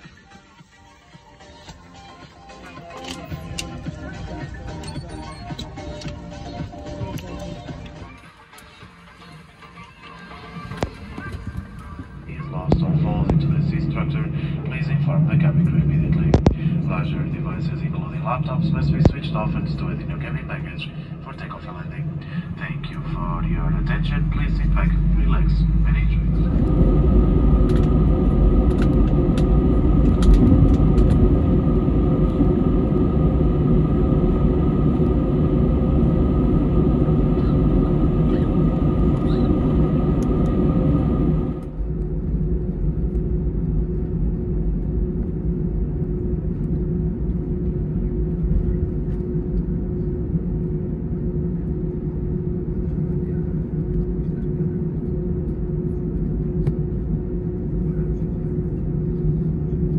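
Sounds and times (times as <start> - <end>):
aircraft engine rumble: 0.0 - 59.9.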